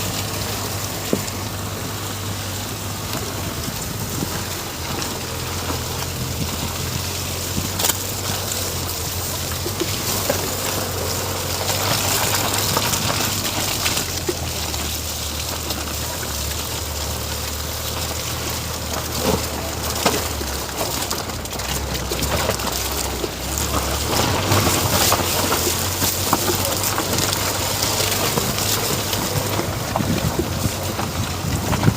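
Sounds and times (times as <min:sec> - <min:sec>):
car engine drone: 0:00.0 - 0:31.9.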